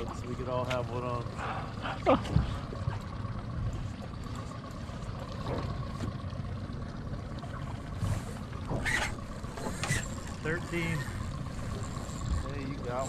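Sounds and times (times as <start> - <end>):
boat low rumble: 0.0 - 13.0.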